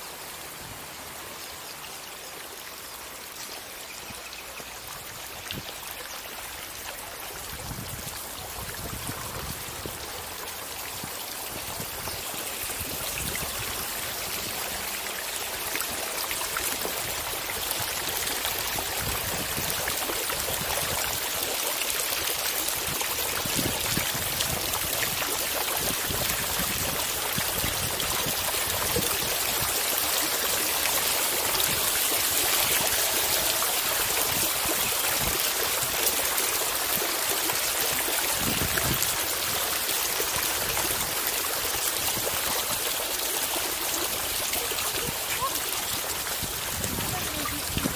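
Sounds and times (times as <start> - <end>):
water feature splashing: 0.0 - 47.9.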